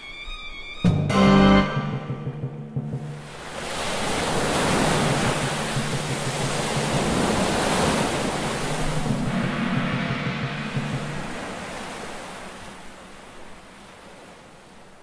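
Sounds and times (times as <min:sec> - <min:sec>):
breaking waves: 0:02.9 - 0:15.0.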